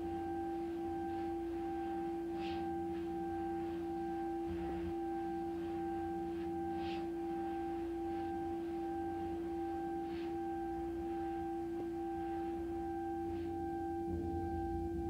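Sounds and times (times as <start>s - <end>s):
electronic drone of held tones: 0.0s - 15.0s
low hum: 0.0s - 15.0s.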